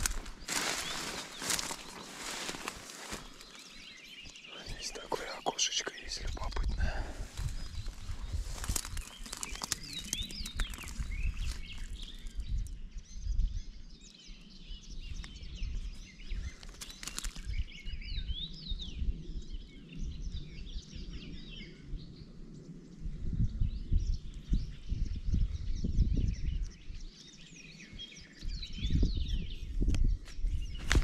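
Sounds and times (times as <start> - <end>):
songbirds chirping and singing: 0.0 - 31.0.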